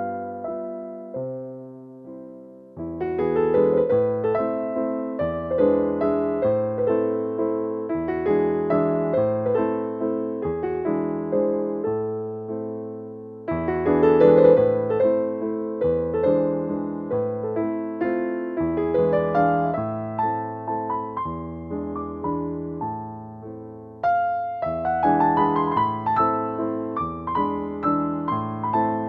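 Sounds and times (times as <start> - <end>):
gentle piano melody: 0.0 - 29.0.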